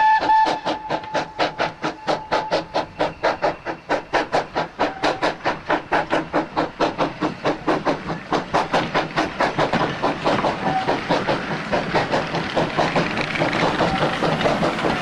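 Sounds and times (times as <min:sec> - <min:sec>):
steam locomotive exhaust beats: 0:00.0 - 0:15.0
train wheels rolling on track: 0:00.0 - 0:15.0.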